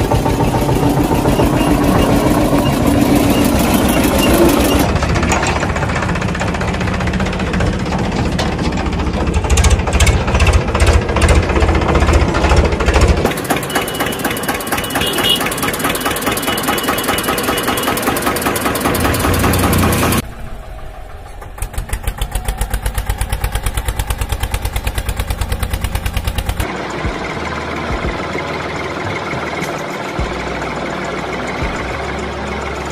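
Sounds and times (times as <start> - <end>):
tractor engine chugging: 0.0 - 32.9.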